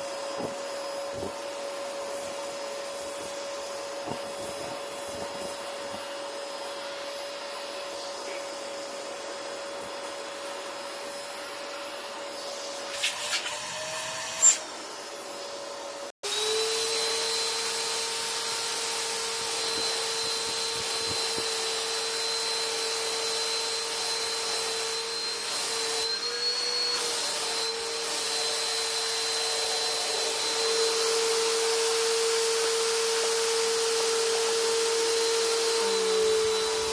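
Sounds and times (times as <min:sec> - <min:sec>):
vacuum cleaner whining: 0:00.0 - 0:36.9.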